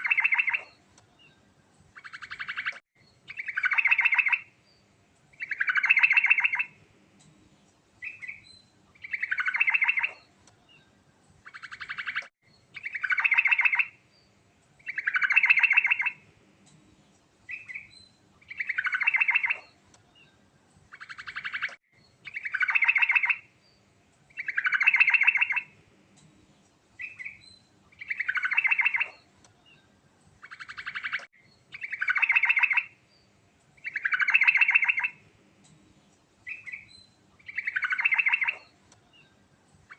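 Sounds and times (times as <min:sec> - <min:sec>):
bulbul singing: 0:00.0 - 0:07.3, 0:08.0 - 0:14.1, 0:14.8 - 0:16.2, 0:17.5 - 0:26.3, 0:27.0 - 0:35.2, 0:36.4 - 0:39.9.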